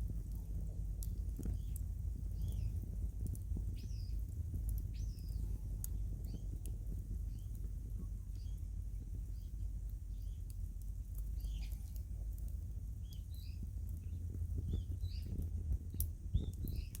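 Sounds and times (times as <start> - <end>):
faint ticks: 0.0 - 17.0
low rumble: 0.0 - 17.0
small birds chirping: 0.3 - 17.0.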